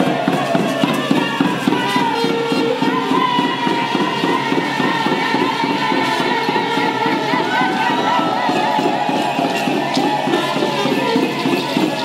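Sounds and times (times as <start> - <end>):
quick drum beat: 0.0 - 12.0
rattles shaking: 0.2 - 12.0.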